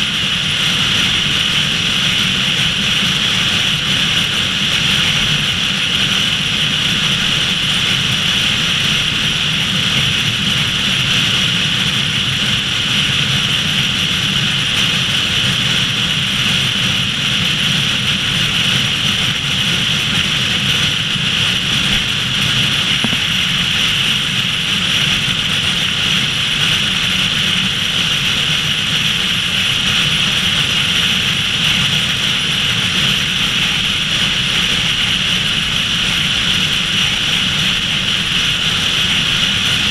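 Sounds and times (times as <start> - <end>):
car wind and tyre roar: 0.0 - 39.9.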